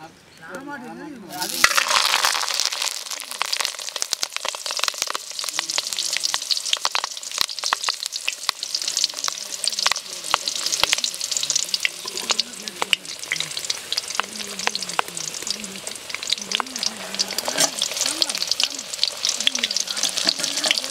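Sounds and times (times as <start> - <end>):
food sizzling in pan: 1.3 - 20.9.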